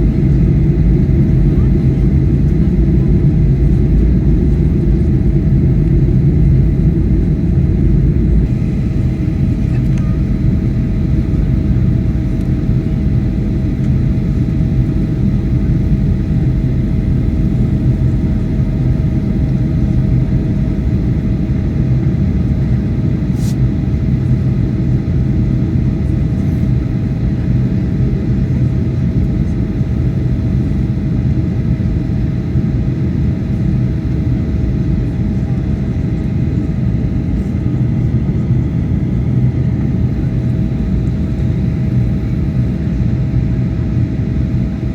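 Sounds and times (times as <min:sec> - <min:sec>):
airplane cabin engine and airflow noise: 0:00.0 - 0:44.9.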